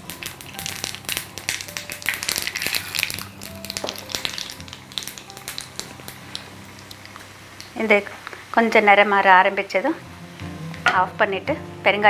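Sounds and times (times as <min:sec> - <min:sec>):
mustard seeds crackling in hot oil: 0:00.0 - 0:10.0
oil sizzling: 0:00.0 - 0:12.0.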